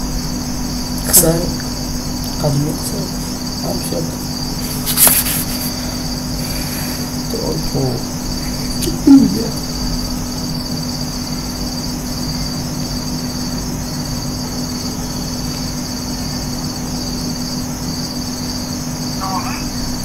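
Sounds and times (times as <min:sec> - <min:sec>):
high insect trill: 0:00.0 - 0:20.0
low steady hum: 0:00.0 - 0:20.0.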